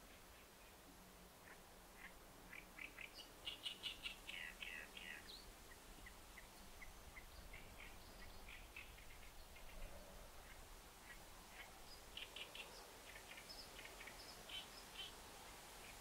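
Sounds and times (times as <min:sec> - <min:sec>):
small birds chirping: 0:01.4 - 0:15.2.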